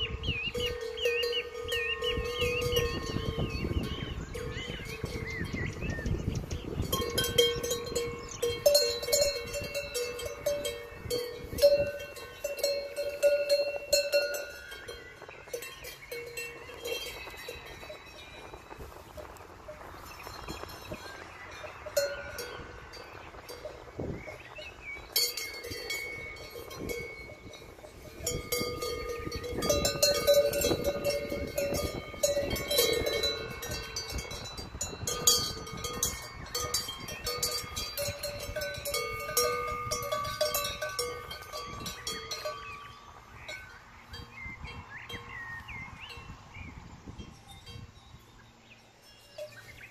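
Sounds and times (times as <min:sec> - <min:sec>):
cowbells clanking: 0:00.0 - 0:49.9.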